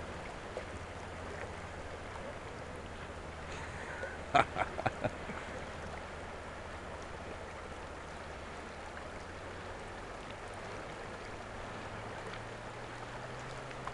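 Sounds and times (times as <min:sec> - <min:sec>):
boat engine idling: 0:00.0 - 0:13.9
water rushing around boat: 0:00.0 - 0:13.9.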